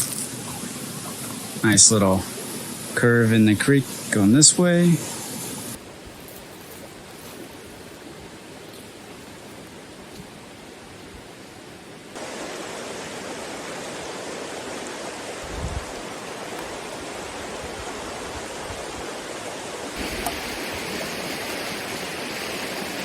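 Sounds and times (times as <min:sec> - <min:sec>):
creek water rushing over rocks: 0:00.0 - 0:23.0.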